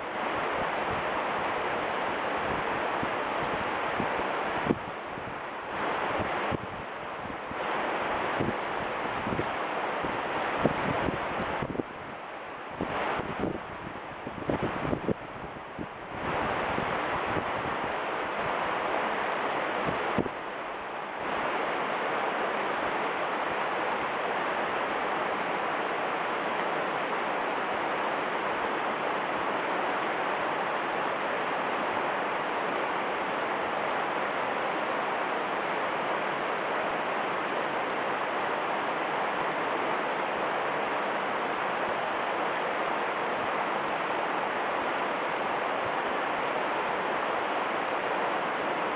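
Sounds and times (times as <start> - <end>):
fast river rushing: 0.0 - 48.9.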